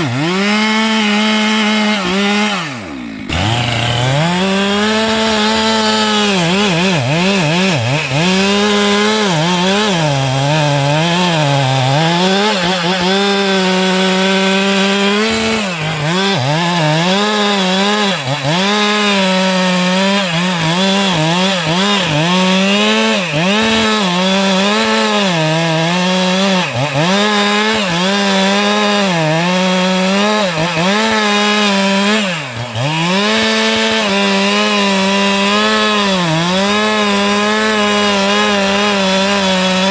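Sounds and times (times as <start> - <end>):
chainsaw cutting through trunk: 0.0 - 39.9.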